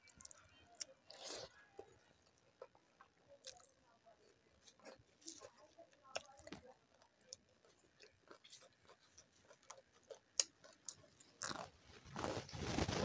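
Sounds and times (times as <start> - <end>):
chewing and lip-smacking: 0.0 - 3.8, 4.6 - 11.7.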